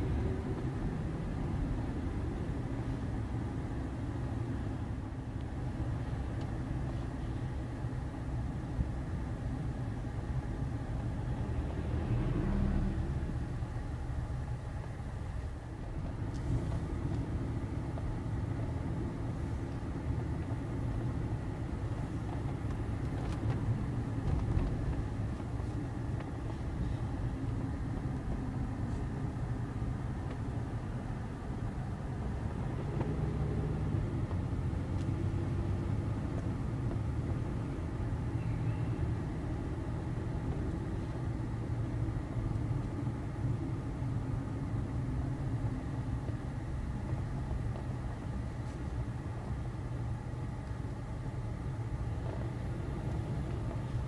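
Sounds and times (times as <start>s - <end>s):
car engine inside cabin: 0.0s - 54.0s.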